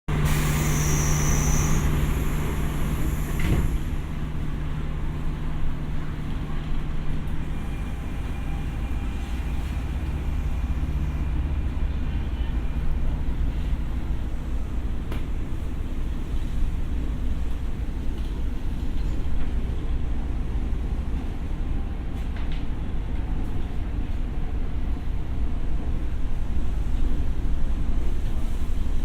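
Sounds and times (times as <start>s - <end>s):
train car hum and rumble: 0.1s - 29.0s.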